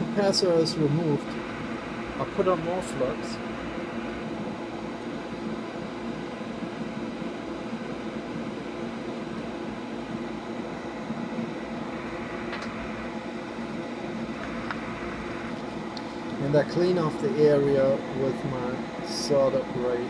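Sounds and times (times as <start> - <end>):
extractor fan whooshing: 0.0 - 20.0.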